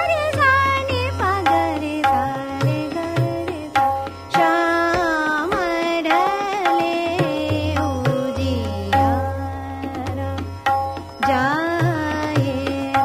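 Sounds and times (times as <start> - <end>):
tabla: 0.0 - 13.0.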